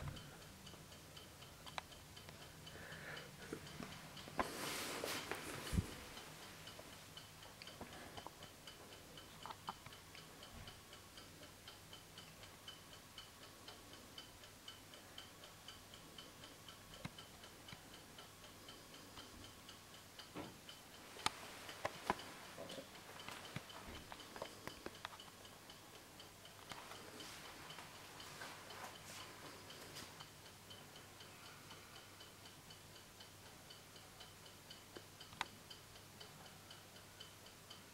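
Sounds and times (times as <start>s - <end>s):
clock ticking fast: 0.0s - 4.6s, 5.3s - 37.9s.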